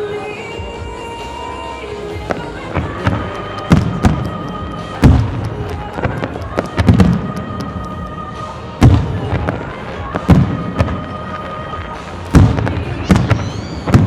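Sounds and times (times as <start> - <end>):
music over loudspeakers: 0.0 - 14.0
fireworks booming: 2.2 - 14.0.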